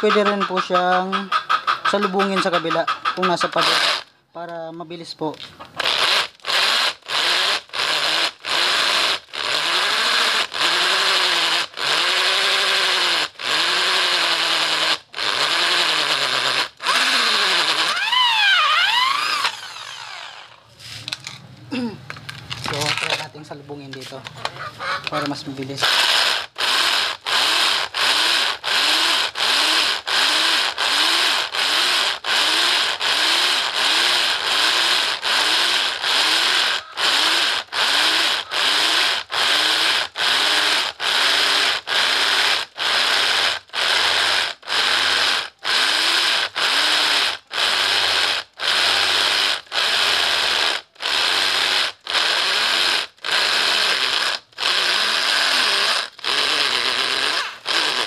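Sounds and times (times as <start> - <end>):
drill grinding through concrete: 0.0 - 4.2, 5.3 - 21.4, 22.1 - 58.0.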